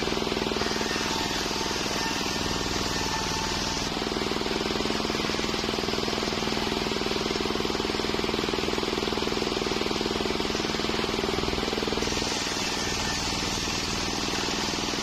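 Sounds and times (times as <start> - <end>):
sawmill motor pulsing hum: 0.0 - 15.0.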